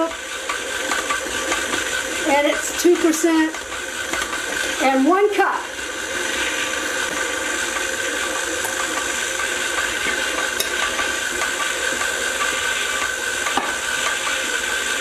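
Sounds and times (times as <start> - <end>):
stand mixer motor running: 0.0 - 15.0.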